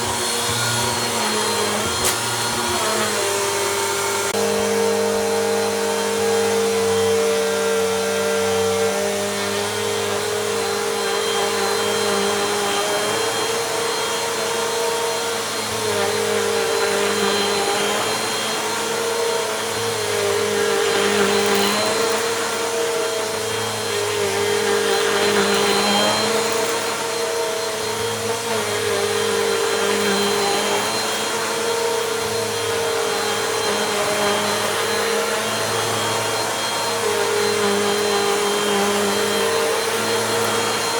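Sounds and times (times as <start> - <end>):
vacuum cleaner running over a rug: 0.0 - 40.9.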